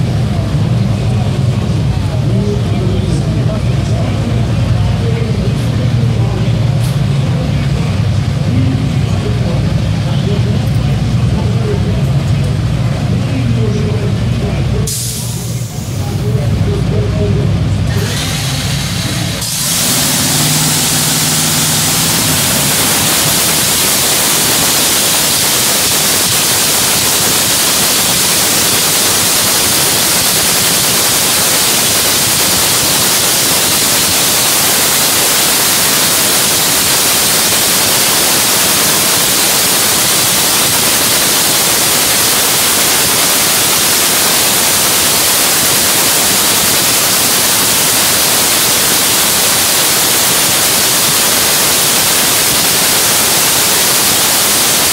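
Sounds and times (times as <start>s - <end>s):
dragster engine running: 0.0s - 54.9s.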